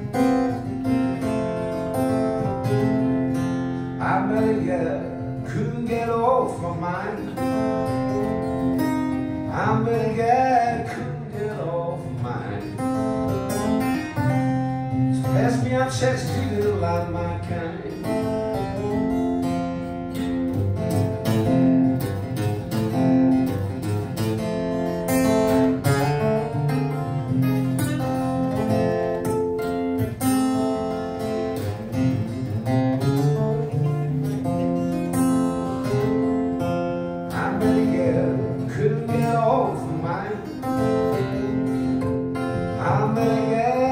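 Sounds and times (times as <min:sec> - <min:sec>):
fingerstyle acoustic guitar: 0:00.0 - 0:43.9.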